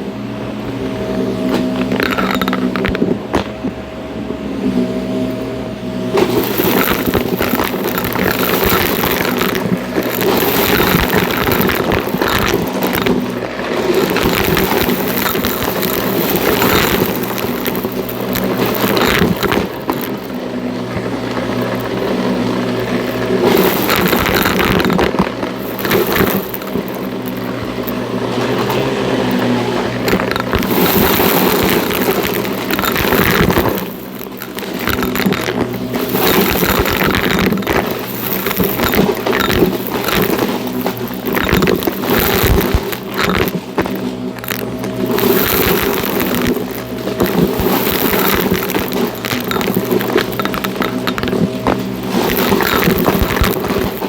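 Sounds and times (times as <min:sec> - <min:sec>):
vacuum motor hum: 0:00.0 - 0:54.0
debris crackling and rattling: 0:01.4 - 0:03.7, 0:06.0 - 0:54.0.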